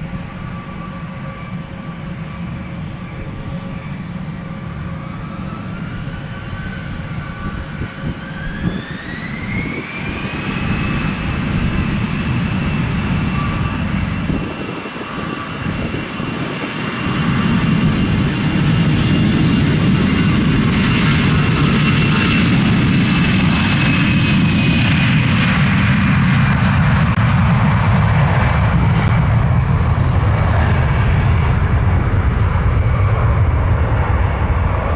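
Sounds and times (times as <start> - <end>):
jet engine whine: 0.0 - 34.9.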